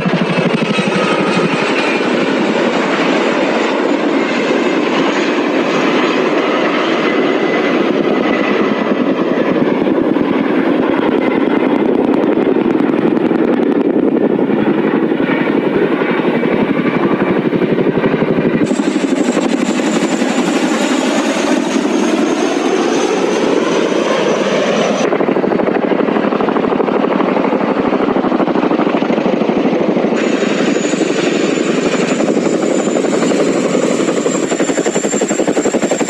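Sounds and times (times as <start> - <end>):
helicopter rotors chopping: 0.0 - 36.0.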